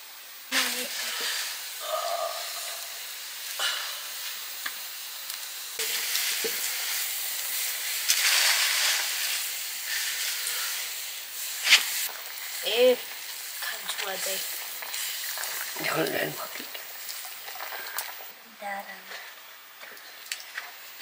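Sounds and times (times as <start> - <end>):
curry sizzling in a hot pan: 0.0 - 21.0.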